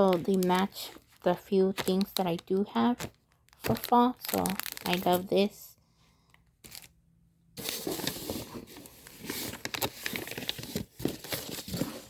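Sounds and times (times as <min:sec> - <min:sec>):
paper and packaging crinkling: 0:00.0 - 0:05.4, 0:06.6 - 0:06.9, 0:07.6 - 0:12.0.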